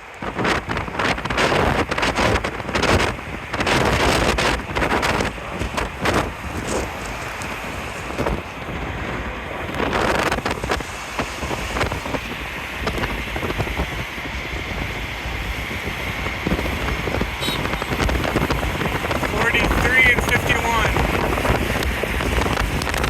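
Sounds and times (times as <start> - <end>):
wind buffeting microphone: 0.0 - 23.0
steady low rumble: 0.2 - 23.0.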